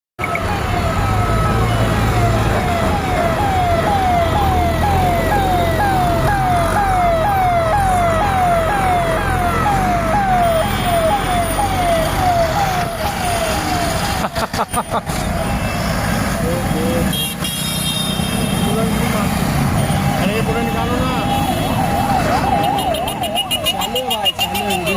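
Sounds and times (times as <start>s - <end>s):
emergency siren wailing: 0.2s - 17.2s, 17.9s - 24.9s
heavy vehicle engines rumbling: 0.2s - 24.9s.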